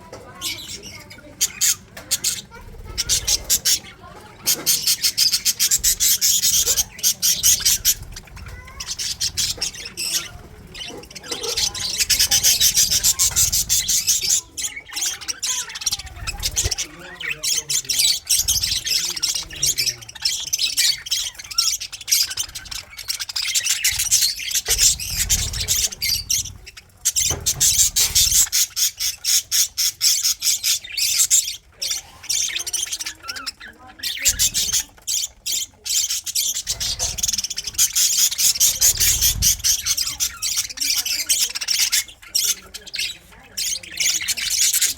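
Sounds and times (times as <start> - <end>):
budgerigars chattering and squawking: 0.0 - 44.9.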